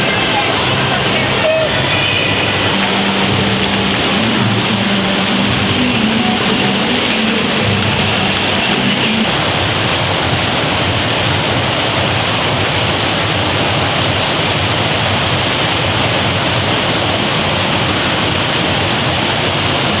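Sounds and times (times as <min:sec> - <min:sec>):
falling and splashing water: 0:00.0 - 0:20.0.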